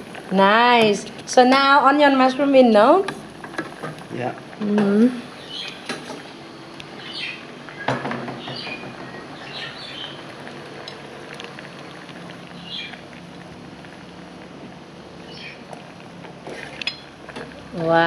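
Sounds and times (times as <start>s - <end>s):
pot simmering: 0.0s - 18.0s.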